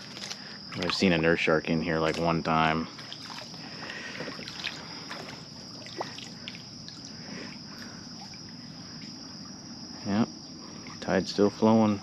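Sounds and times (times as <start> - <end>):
water lapping around a kayak hull: 0.0 - 1.2, 2.0 - 9.9, 10.5 - 12.0
high-pitched insect chorus: 0.0 - 12.0.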